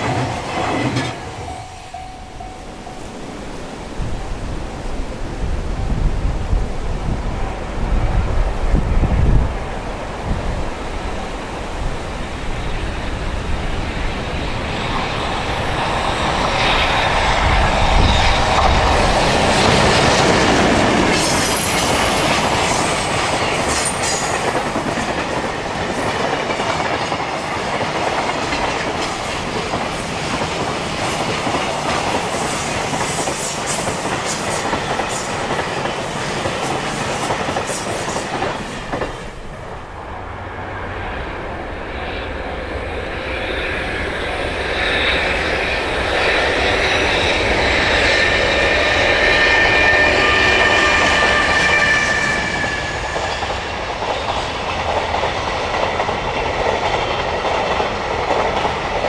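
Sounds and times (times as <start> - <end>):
locomotive passing: 0.0 - 59.0.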